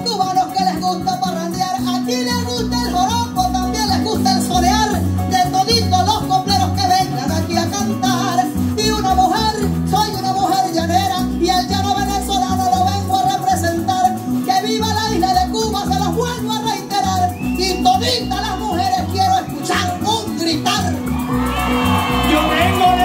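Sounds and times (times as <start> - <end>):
electric bass: 0.0 - 23.0
quick melody line: 0.0 - 23.0
strummed cuatro: 0.0 - 23.0.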